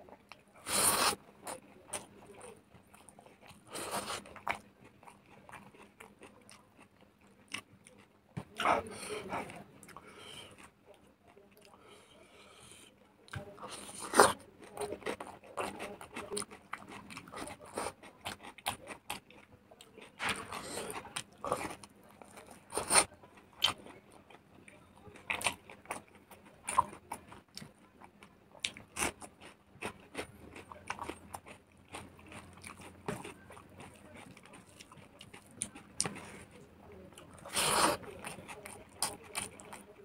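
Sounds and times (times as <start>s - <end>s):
person chewing: 0.3s - 10.7s, 11.6s - 24.4s, 25.0s - 27.8s, 28.6s - 39.9s.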